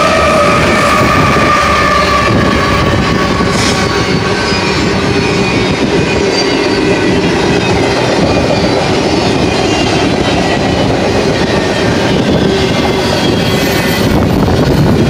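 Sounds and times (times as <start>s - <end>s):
train wheels rolling on rail: 0.0s - 15.0s.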